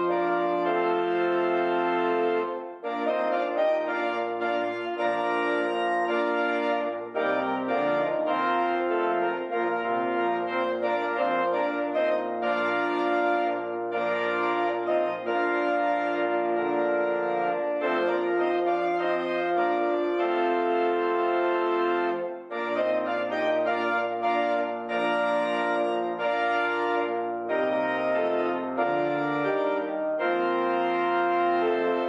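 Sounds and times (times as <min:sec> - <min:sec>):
organ playing held chords: 0:00.0 - 0:32.0.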